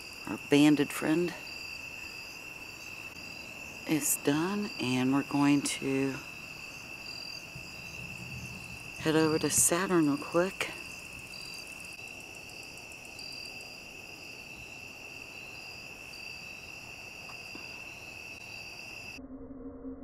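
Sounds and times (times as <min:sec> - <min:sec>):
crickets and insects trilling: 0:00.0 - 0:19.2.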